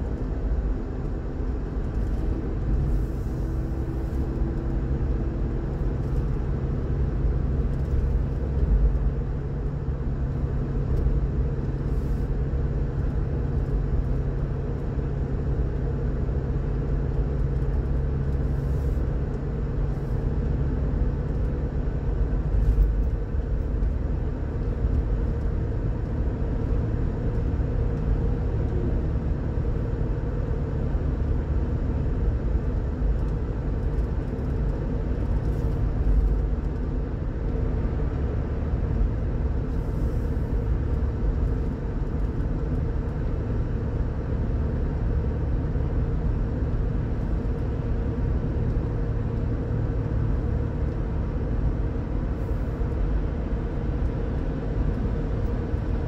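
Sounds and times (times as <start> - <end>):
car driving at highway speed: 0.0 - 56.0.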